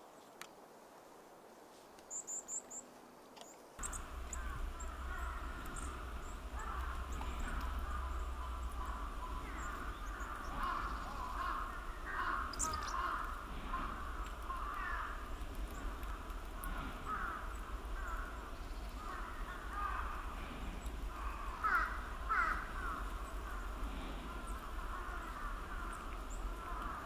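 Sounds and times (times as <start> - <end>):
distant bird calls chatter: 2.1 - 27.0
low outdoor rumble: 3.8 - 27.0.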